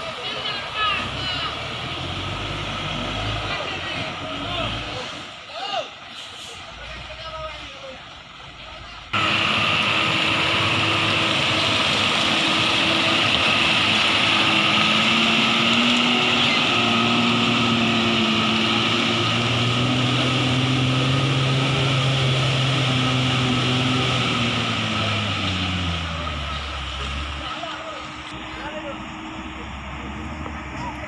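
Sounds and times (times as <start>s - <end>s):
truck diesel engine under load: 0.0s - 31.0s.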